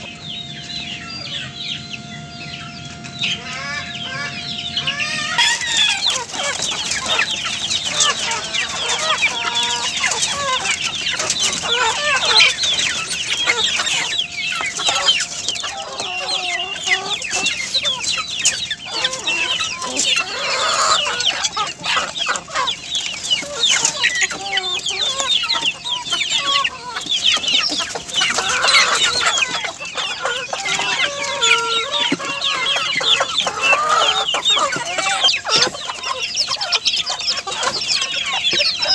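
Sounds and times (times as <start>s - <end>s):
hens clucking: 0.0s - 38.9s.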